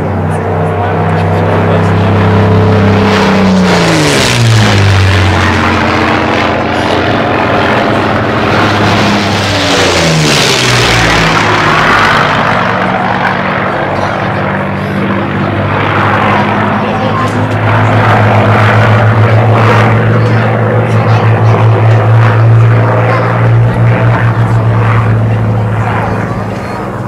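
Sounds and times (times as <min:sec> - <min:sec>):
propeller plane engine passing: 0:00.0 - 0:27.0.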